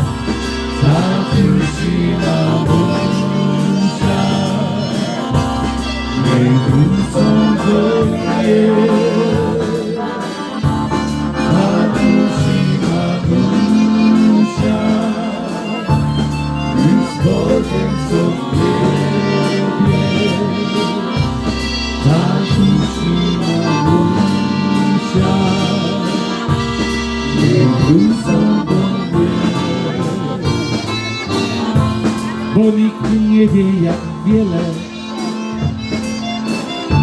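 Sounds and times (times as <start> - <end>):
live polka band playing: 0.0 - 37.0.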